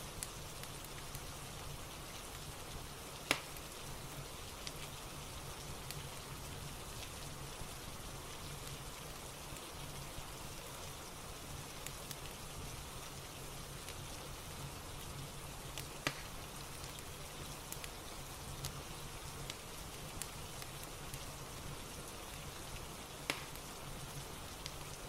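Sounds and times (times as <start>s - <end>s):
fireplace crackling and popping: 0.0s - 25.0s
steady rain: 0.0s - 25.0s.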